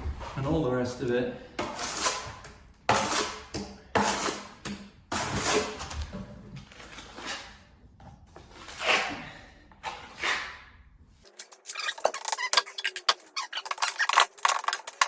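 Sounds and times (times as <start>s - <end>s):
trowel scraping wet plaster: 1.6s - 15.0s.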